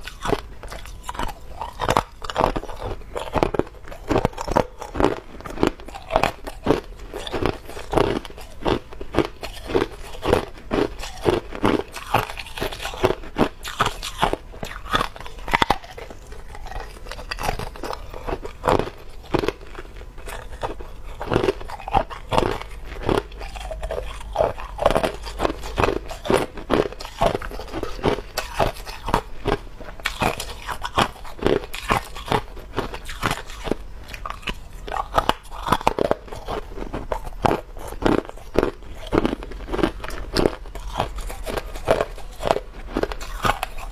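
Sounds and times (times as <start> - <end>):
ice being chewed: 0.0 - 43.9.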